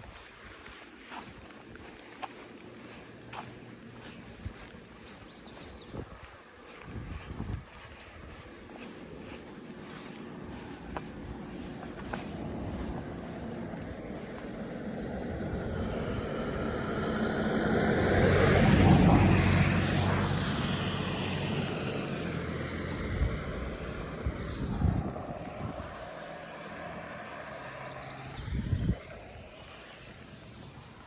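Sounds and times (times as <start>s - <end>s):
engine passing by: 0.0s - 31.0s.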